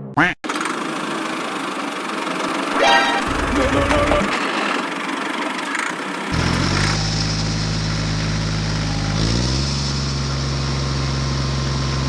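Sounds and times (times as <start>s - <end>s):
small engine revving: 0.5s - 12.0s.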